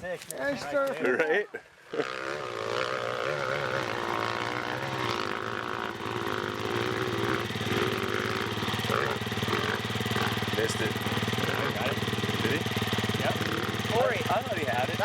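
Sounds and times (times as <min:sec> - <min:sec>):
motorcycle engine revving: 0:01.9 - 0:15.0.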